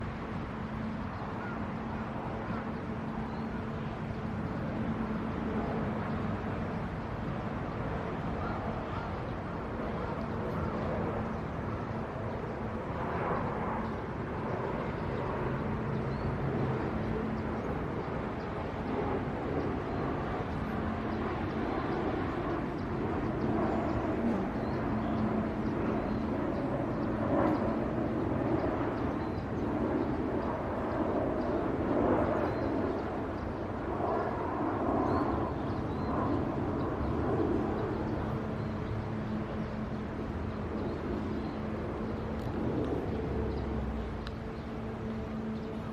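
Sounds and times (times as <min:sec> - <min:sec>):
continuous rumble: 0:00.0 - 0:45.9.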